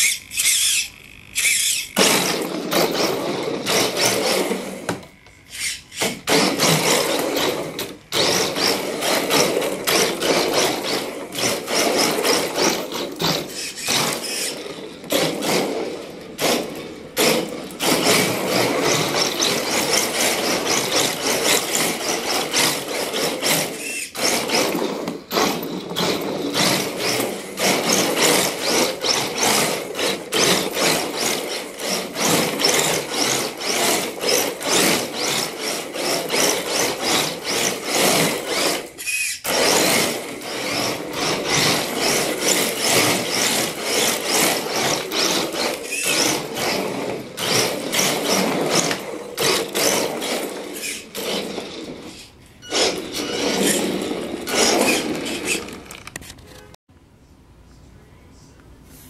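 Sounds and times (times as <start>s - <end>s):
toy car electric motor whirring: 0.0s - 56.7s.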